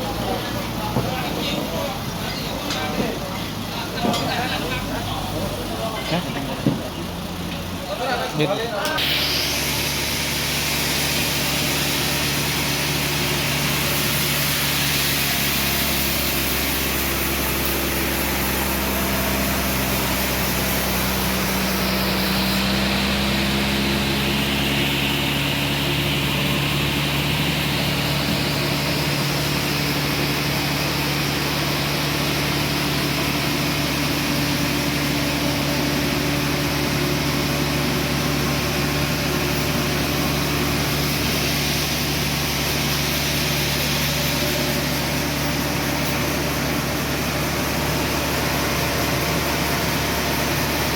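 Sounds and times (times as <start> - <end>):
sawmill engine running: 0.0 - 50.9.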